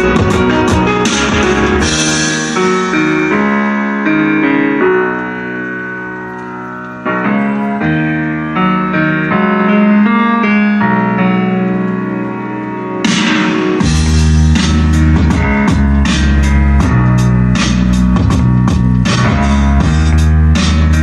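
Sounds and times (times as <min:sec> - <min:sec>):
keyboard chords: 0:00.0 - 0:21.0.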